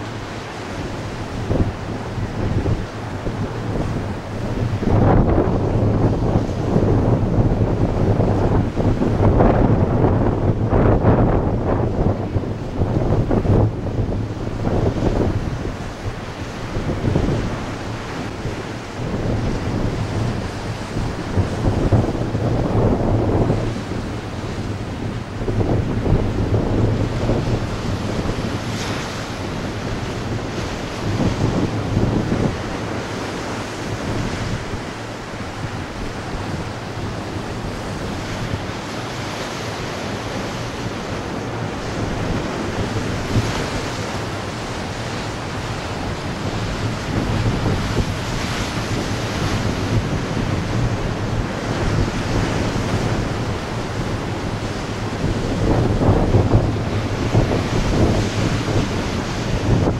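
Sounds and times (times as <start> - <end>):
ocean waves breaking: 0.0 - 59.9
wind buffeting microphone: 0.0 - 59.9.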